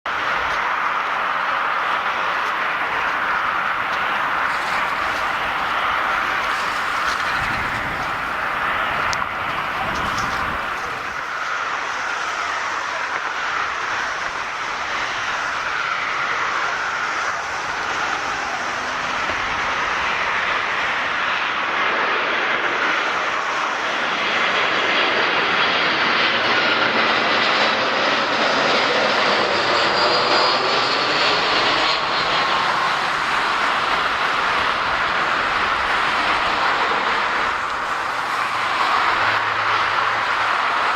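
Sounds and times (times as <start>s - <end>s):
jet engines rumbling: 0.1s - 40.9s.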